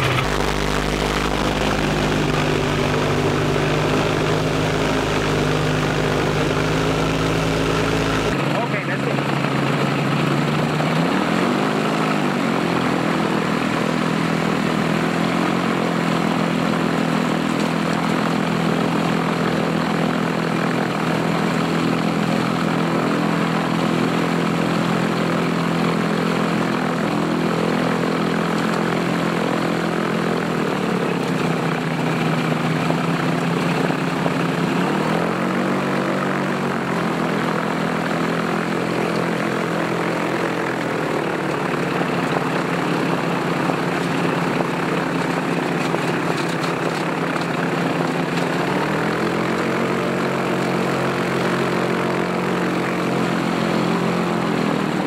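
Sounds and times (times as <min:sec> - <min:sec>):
propeller engine running: 0:00.0 - 0:55.0.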